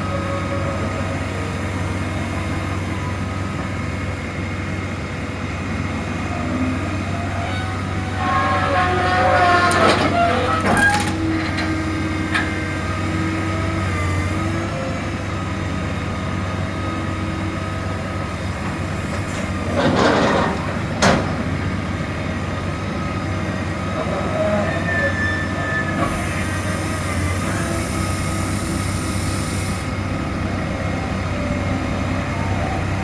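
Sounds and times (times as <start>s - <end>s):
heavy machinery engine drone: 0.0s - 33.0s.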